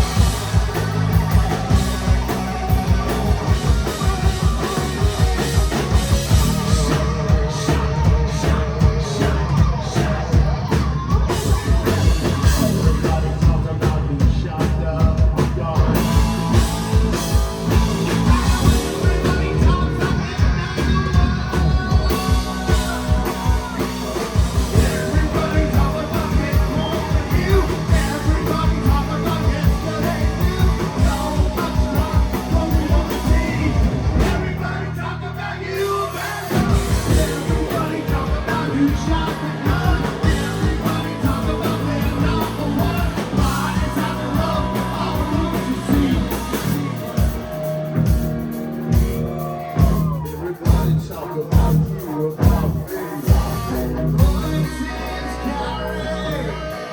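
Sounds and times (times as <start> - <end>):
man singing: 0.0 - 47.5, 49.8 - 56.9
rock band playing: 0.0 - 56.9.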